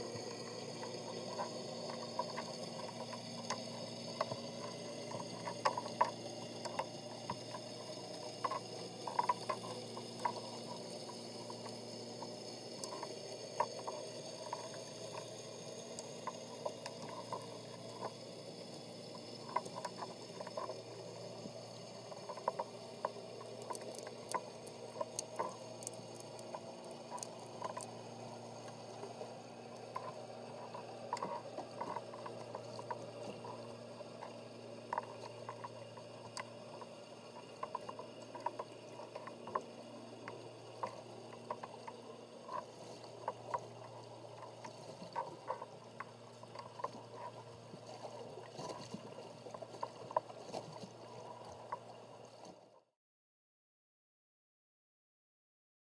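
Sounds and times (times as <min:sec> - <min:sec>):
steady low underwater hum: 0:00.0 - 0:52.9
small clicks and pops: 0:00.1 - 0:52.6.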